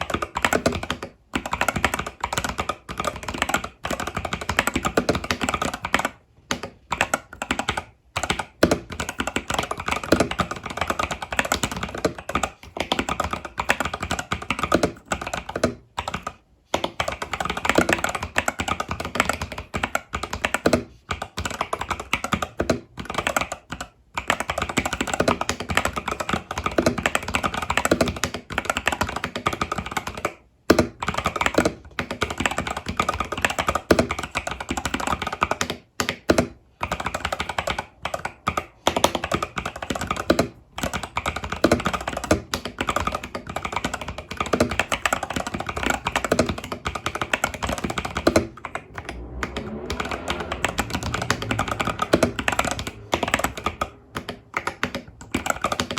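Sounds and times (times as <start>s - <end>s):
fast typing on mechanical keyboard: 0.0s - 55.9s.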